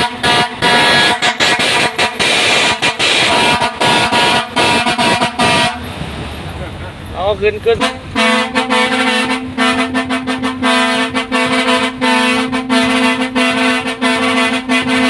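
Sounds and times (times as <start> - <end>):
truck air horn stuttering: 0.0 - 5.9, 7.6 - 15.0.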